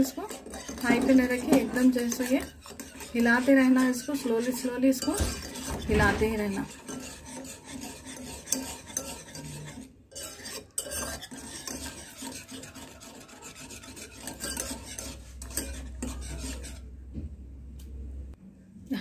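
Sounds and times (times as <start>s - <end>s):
whisk scraping and sloshing in pan: 0.0s - 17.1s.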